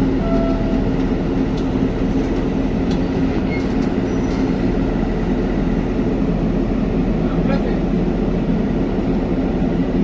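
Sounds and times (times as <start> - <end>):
excavator engine rumbling: 0.0 - 10.0.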